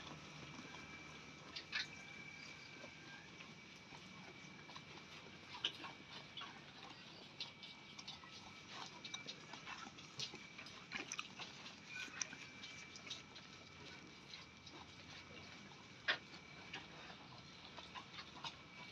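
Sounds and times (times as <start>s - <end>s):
goats chewing grass: 0.0s - 18.9s.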